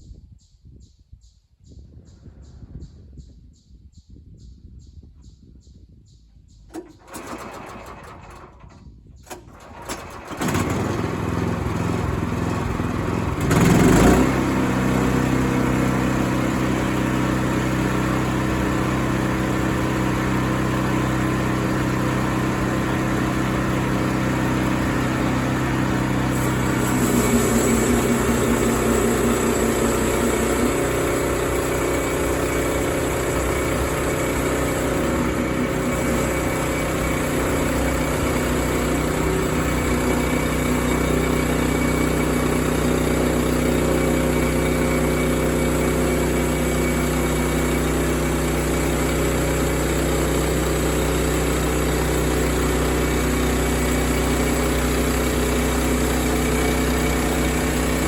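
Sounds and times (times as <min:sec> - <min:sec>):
sawmill engine running: 0:06.7 - 0:08.7, 0:09.3 - 0:58.0.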